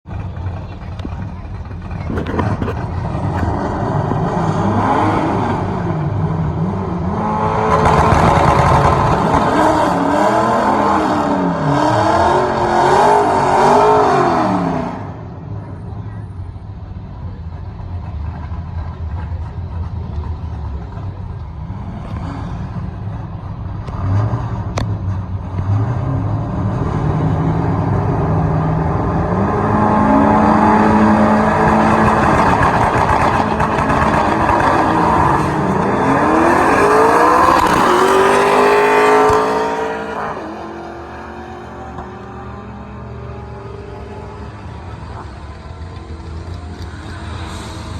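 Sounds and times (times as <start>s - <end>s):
racing engines at full throttle: 0.0s - 47.9s.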